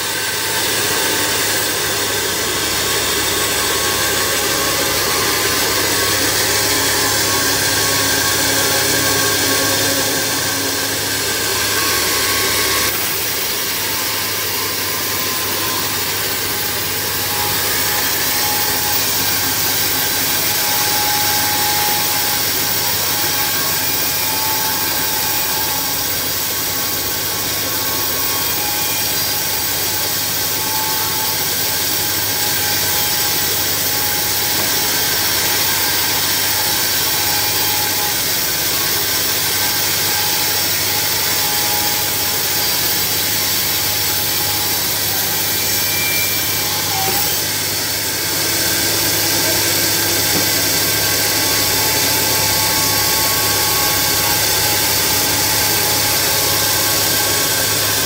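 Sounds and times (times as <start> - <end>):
bandsaw sawing through log: 0.0 - 58.0.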